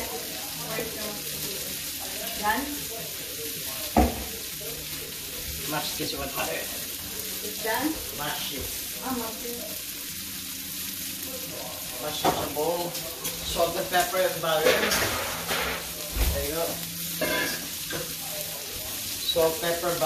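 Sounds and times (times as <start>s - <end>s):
chicken deep-frying in oil: 0.0s - 20.0s.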